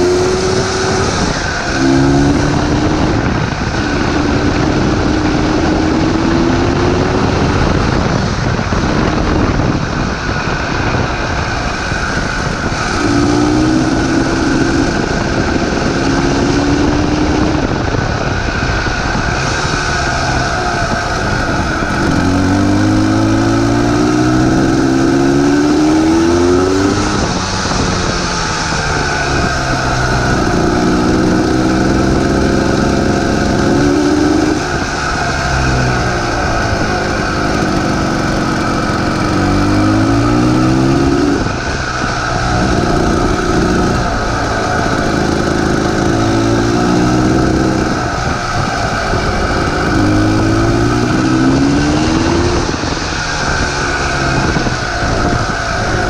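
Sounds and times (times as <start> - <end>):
dirt bike engine revving: 0.0 - 56.0
steady rushing noise: 0.0 - 56.0.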